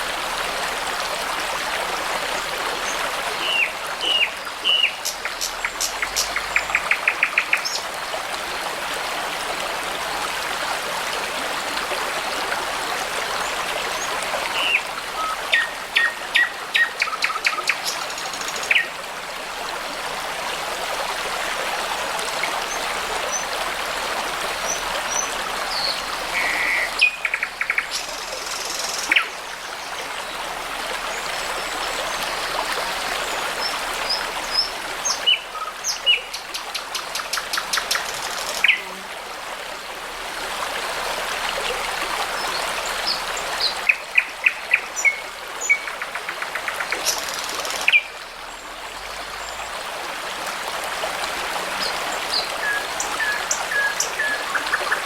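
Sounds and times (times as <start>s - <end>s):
babbling brook: 0.0s - 55.0s.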